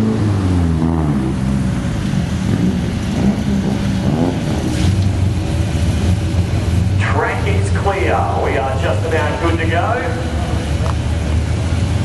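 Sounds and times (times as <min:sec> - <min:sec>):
drag car engines revving: 0:00.0 - 0:12.0.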